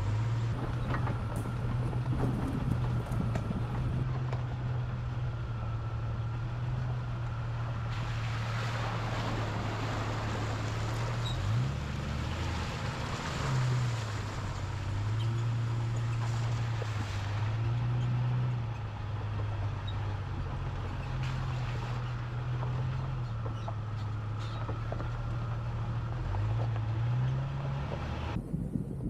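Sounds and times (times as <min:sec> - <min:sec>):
car engine drone: 0:00.0 - 0:29.0
tyre and road noise: 0:00.0 - 0:29.0.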